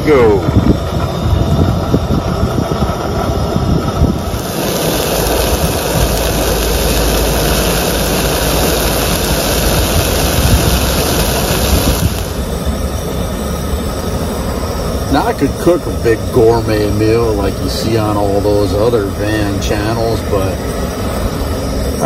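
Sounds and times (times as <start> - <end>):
frying pan and burner hissing: 0.0 - 22.0.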